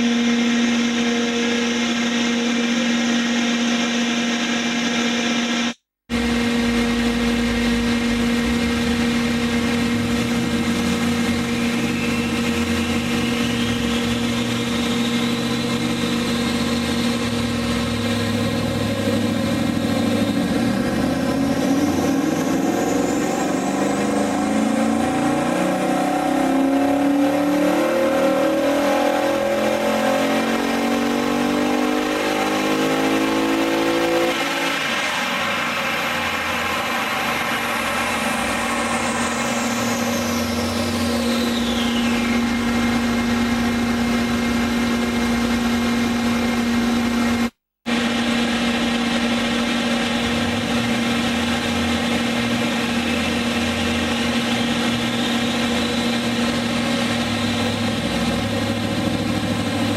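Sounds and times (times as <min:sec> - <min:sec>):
car engine revving on dyno: 0:00.0 - 0:59.9
dyno rollers whining: 0:00.0 - 0:59.9.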